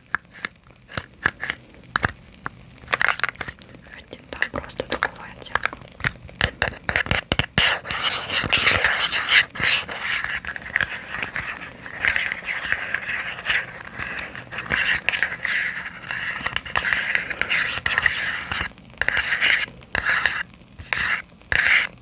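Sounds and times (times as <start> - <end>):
soft scratchy noise: 0.0 - 22.0.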